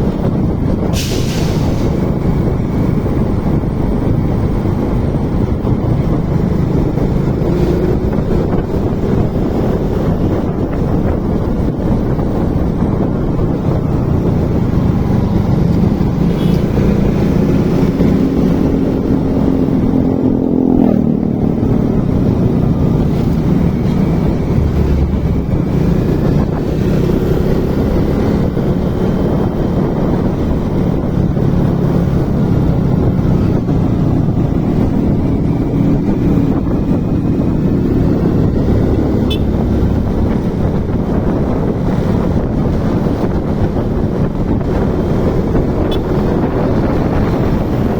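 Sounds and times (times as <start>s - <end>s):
wind rushing over microphone: 0.0s - 47.9s
motorcycle engine: 2.1s - 47.9s.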